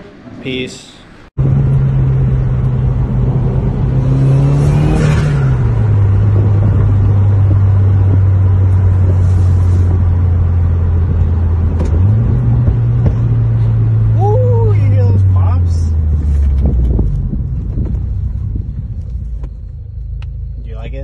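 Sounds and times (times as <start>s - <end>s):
car engine from inside cabin: 1.4s - 21.0s.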